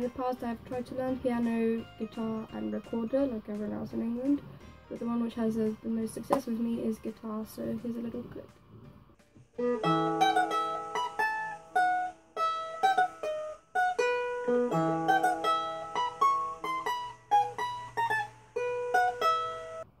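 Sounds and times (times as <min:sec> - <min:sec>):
acoustic guitar melody plucked: 0:00.0 - 0:07.0, 0:09.4 - 0:20.0.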